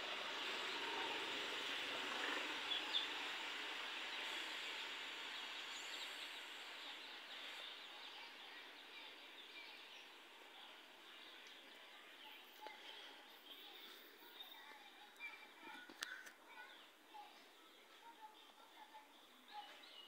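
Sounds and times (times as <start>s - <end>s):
soft outdoor hiss: 0.0s - 20.0s.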